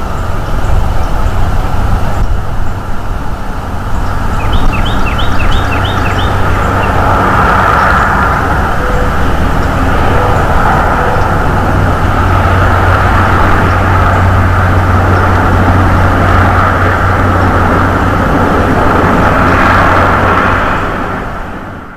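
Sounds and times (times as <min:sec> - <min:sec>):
constant low hum: 0:00.0 - 0:21.9
outdoor background noise: 0:00.0 - 0:21.9.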